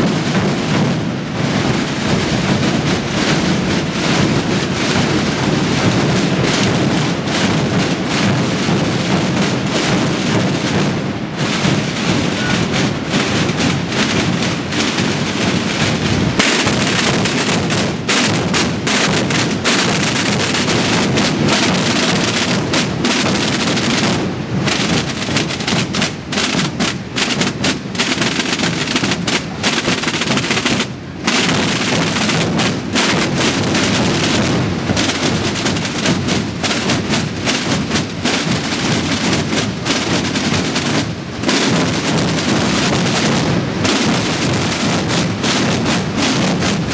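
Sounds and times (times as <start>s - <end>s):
massed bass and snare drums: 0.0s - 46.9s.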